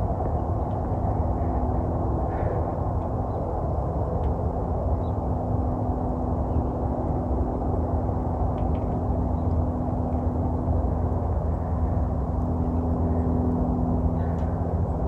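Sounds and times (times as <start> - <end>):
continuous rumble: 0.0 - 15.0
low motor hum: 0.0 - 15.0.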